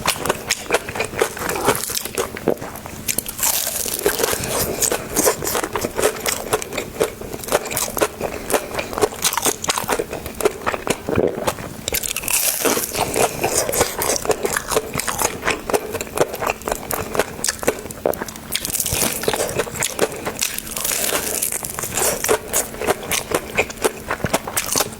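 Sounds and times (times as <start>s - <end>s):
person chewing crunchy food: 0.0s - 24.9s.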